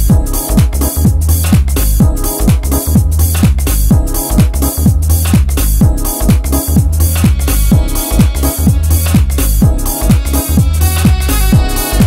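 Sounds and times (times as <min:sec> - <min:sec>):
electronic dance music: 0:00.0 - 0:12.0
kick drum: 0:00.0 - 0:12.0.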